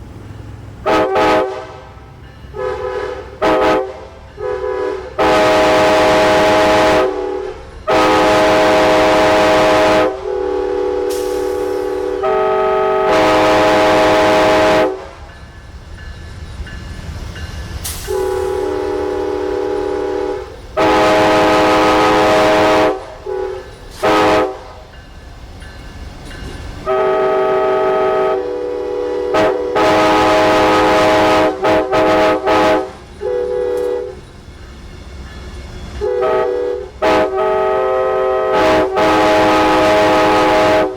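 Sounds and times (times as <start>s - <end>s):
rail traffic rumble: 0.0s - 40.9s
train air horn chords: 0.8s - 15.3s, 17.9s - 24.9s, 26.8s - 34.2s, 36.0s - 40.9s.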